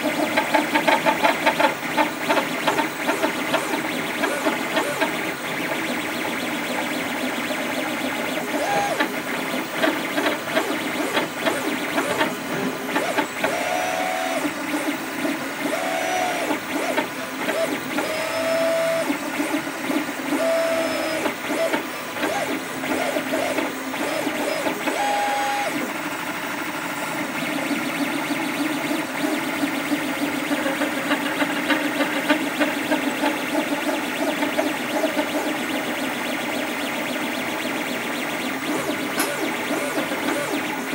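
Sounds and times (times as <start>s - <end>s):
stepper motors whining: 0.0s - 40.9s.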